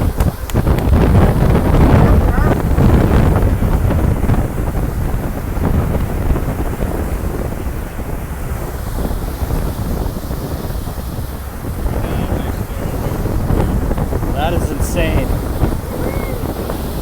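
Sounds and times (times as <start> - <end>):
water rushing along boat hull: 0.0 - 17.0
wind buffeting microphone: 0.0 - 17.0.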